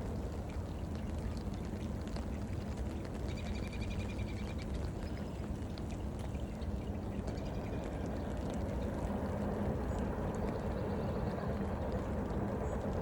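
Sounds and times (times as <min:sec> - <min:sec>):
rain pattering: 0:00.0 - 0:13.0
wind buffeting microphone: 0:00.0 - 0:13.0.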